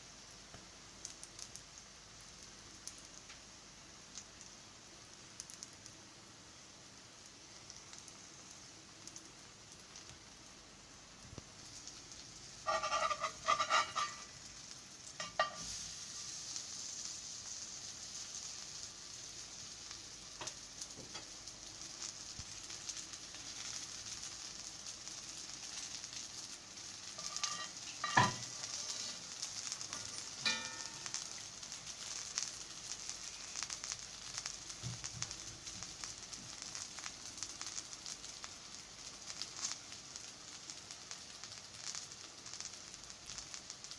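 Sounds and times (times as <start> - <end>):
pancake sizzling in a pan: 0.0 - 43.9.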